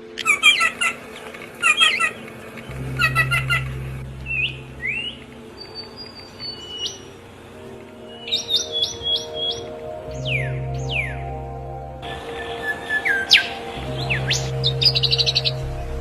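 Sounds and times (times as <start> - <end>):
low steady hum: 0.0 - 16.0
songbirds chirping and whistling: 0.0 - 16.0.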